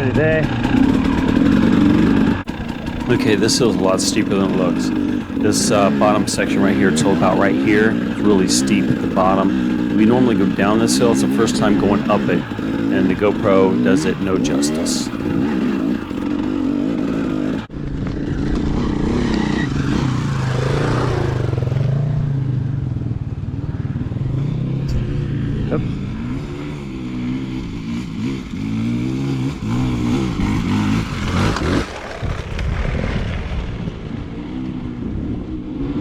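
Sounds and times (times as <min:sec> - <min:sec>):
dirt bike engine revving: 0:00.0 - 0:32.9, 0:33.8 - 0:36.0.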